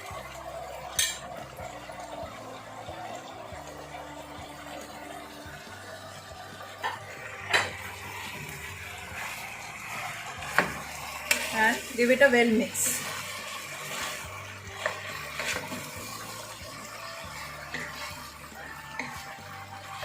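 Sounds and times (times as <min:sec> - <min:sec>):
food sizzling in a frying pan: 0:00.0 - 0:20.0
quiet background music: 0:00.0 - 0:20.0.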